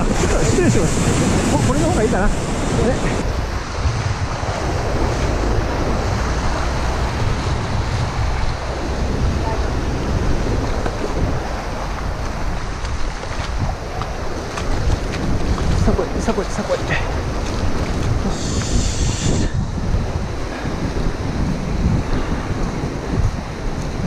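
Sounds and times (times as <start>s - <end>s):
sea surf washing and foaming: 0.0s - 24.0s
wind buffeting microphone: 0.0s - 24.0s.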